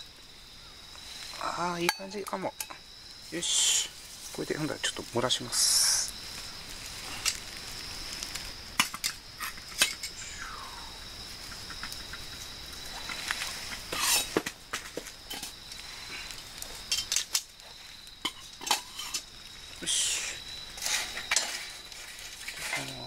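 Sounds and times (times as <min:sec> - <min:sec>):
crickets chirring: 0:00.0 - 0:23.0
fire crackling and popping: 0:00.0 - 0:23.0.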